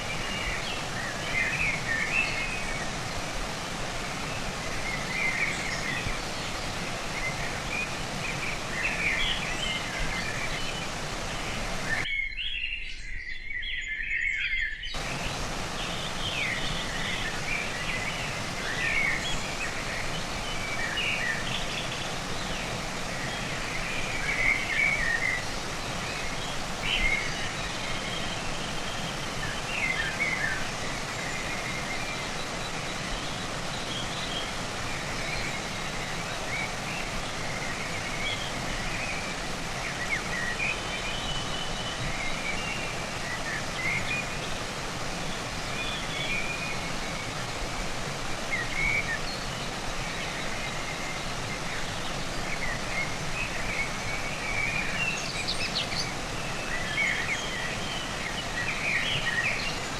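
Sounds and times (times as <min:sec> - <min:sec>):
stream water rushing: 0:00.0 - 0:12.1, 0:15.0 - 0:59.9
small birds chirping: 0:00.0 - 0:59.9.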